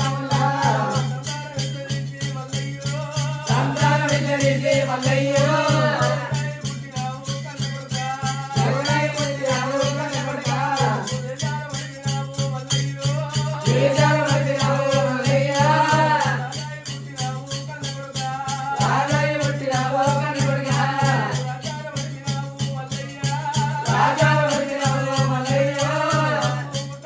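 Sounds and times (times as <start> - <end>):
voices singing: 0.0 - 1.5, 2.6 - 7.3, 8.0 - 12.0, 13.0 - 16.7, 18.3 - 27.0
fast jingling percussion beat: 0.0 - 27.0.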